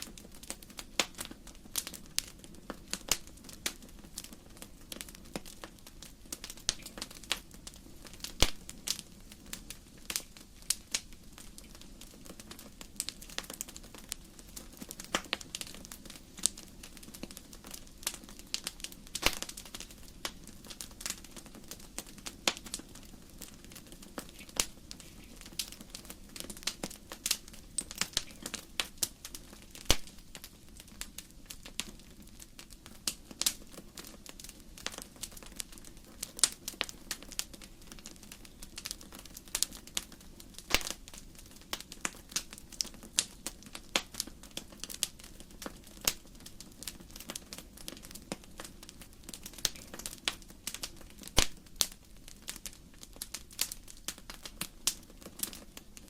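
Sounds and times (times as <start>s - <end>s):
firewood crackling in fireplace: 0.0s - 56.0s.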